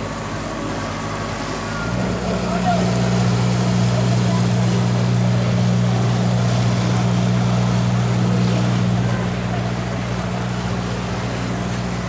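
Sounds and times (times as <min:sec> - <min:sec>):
boat engine droning: 0:00.0 - 0:12.0
wind and water hiss: 0:00.0 - 0:12.0.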